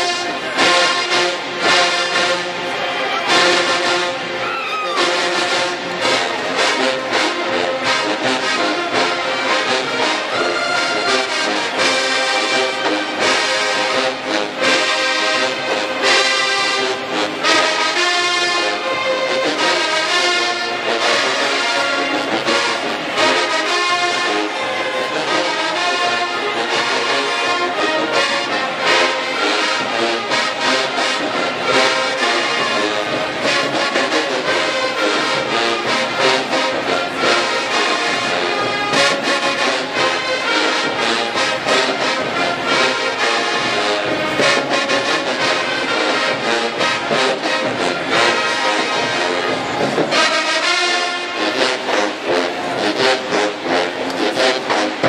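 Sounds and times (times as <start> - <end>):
marching band playing: 0.0 - 55.0.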